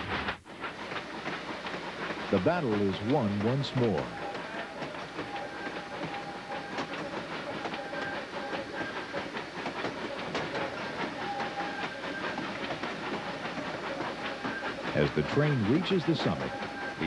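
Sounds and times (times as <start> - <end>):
steam train hissing: 0.0 - 17.0
wheels clicking over rail joints: 0.0 - 17.0.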